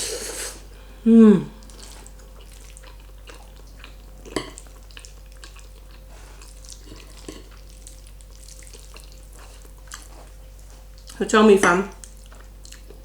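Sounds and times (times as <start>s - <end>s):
low electrical hum: 0.0s - 13.0s
chewing mouth clicks and smacks: 1.7s - 11.2s, 11.9s - 13.0s.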